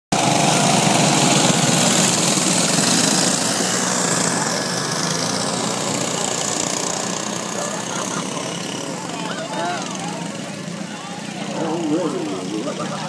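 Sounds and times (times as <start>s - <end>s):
go-kart engines passing: 0.2s - 13.0s.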